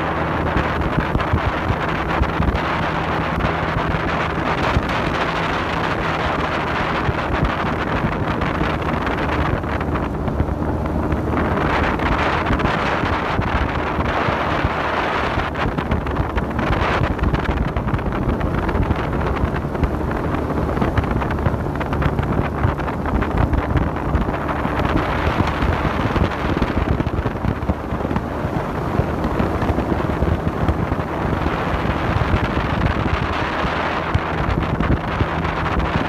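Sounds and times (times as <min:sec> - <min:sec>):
motorboat engine running: 0:00.0 - 0:36.0
wind buffeting microphone: 0:00.0 - 0:36.0.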